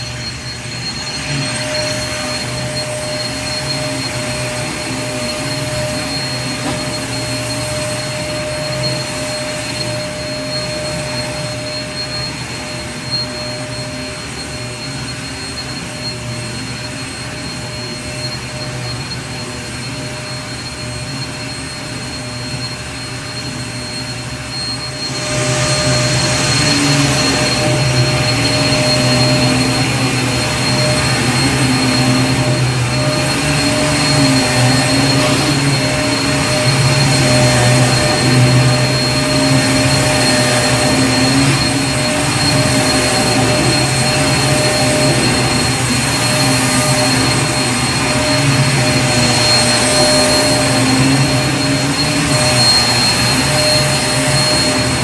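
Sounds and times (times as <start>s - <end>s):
vacuum cleaner motor running: 0.0s - 55.0s.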